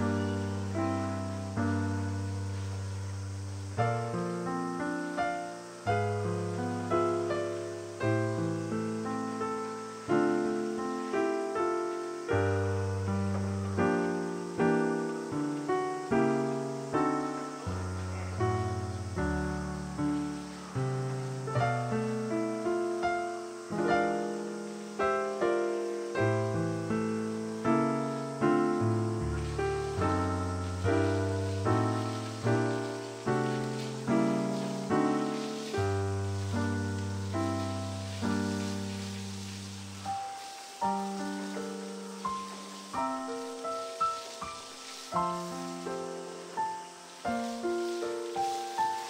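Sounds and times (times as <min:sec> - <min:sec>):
solo piano music: 0:00.0 - 0:49.0.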